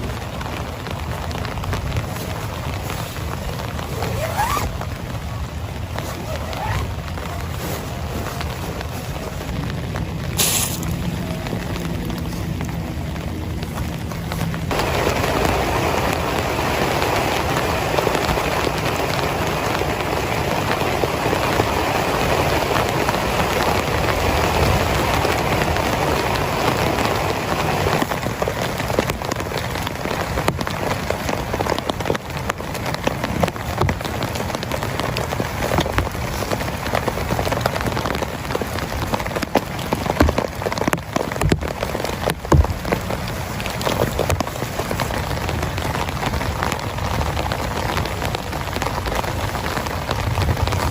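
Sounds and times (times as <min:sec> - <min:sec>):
heavy drips: 0:00.0 - 0:50.9
heavy rain on a tent: 0:00.0 - 0:50.9.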